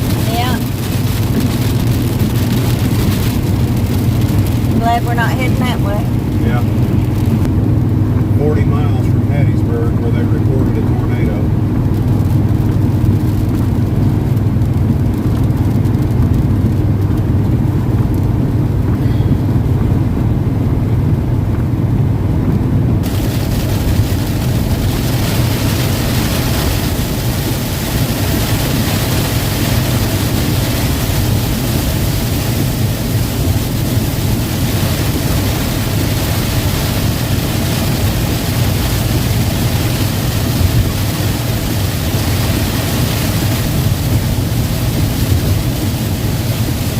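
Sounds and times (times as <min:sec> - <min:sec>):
rain and tyre spray hiss: 0:00.0 - 0:19.1, 0:23.0 - 0:46.9
vehicle engine and road drone: 0:00.0 - 0:46.9.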